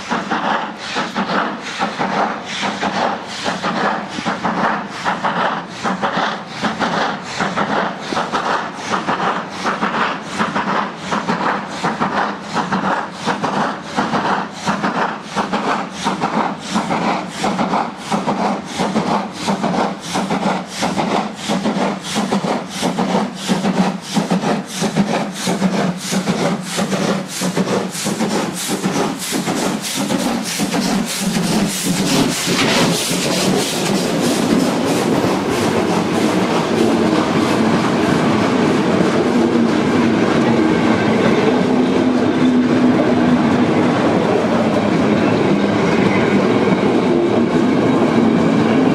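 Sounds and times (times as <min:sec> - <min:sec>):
steam locomotive chuffing: 0:00.0 - 0:48.9.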